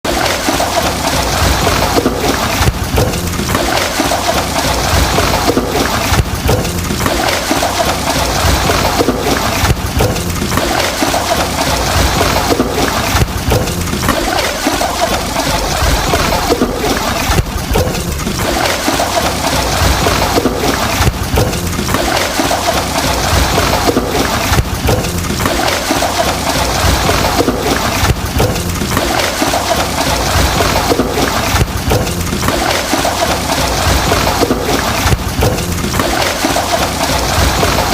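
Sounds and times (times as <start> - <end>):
washing machine running: 0.0 - 37.9
water sloshing in drum: 0.0 - 37.9.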